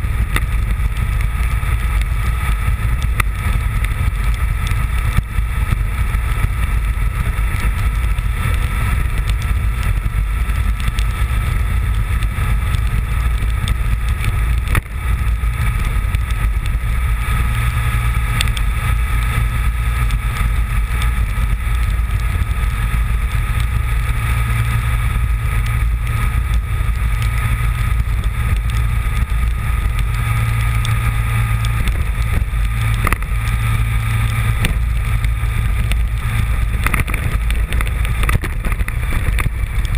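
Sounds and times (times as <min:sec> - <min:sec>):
motorcycle engine cruising: 0:00.0 - 0:39.9
riding noise rumble: 0:00.0 - 0:39.9.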